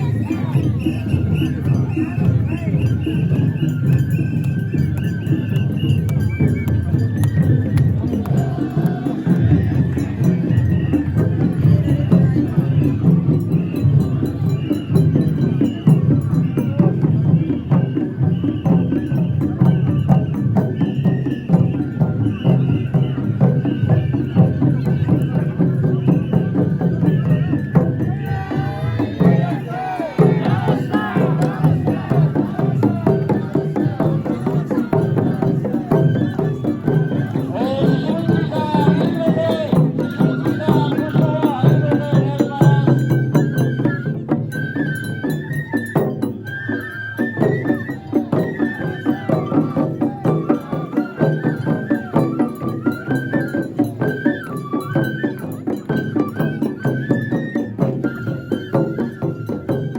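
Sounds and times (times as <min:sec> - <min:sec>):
crowd voices: 0:00.0 - 0:59.9
drum and wood-block beat: 0:00.0 - 0:59.9
pitched festival melody: 0:00.0 - 0:59.9.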